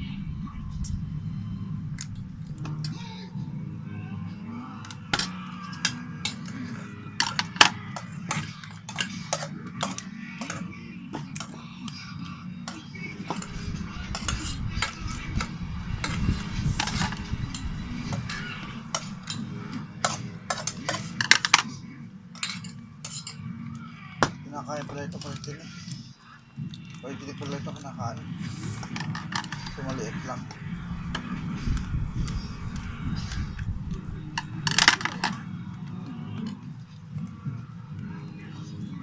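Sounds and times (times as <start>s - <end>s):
steady low hum: 0.0s - 24.5s, 28.1s - 39.0s.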